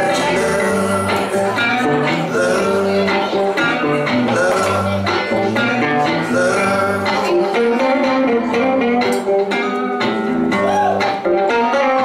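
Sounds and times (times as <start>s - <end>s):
electric guitars playing: 0.0s - 12.0s.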